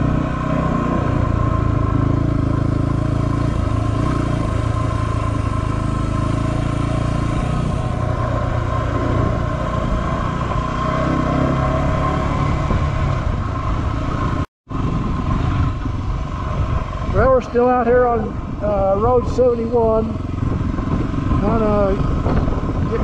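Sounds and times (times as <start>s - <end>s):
motorcycle engine running steadily: 0.0s - 23.0s.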